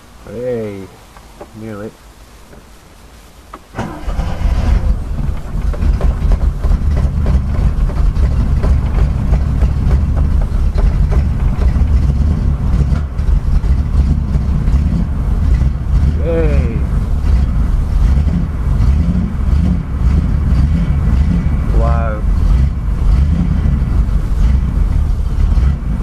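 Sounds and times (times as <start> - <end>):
car engine starting and running: 3.4 - 26.0.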